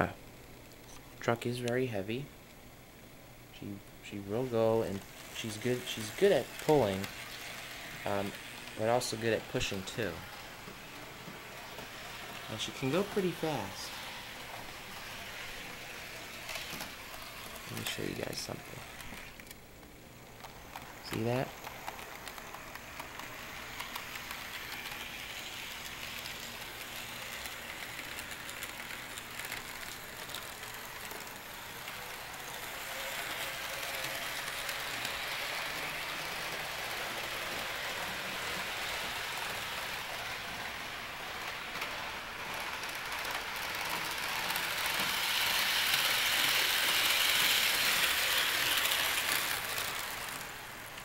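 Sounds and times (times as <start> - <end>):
model train motor whir: 4.4 - 19.6, 20.3 - 51.0.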